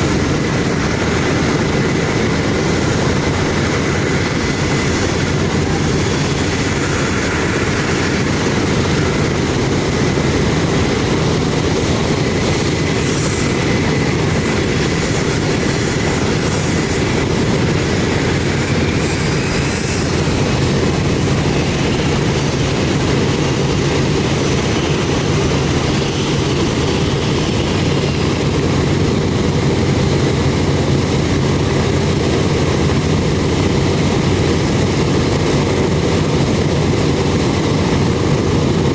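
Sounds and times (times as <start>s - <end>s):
radial aircraft engines rumbling: 0.0s - 38.9s.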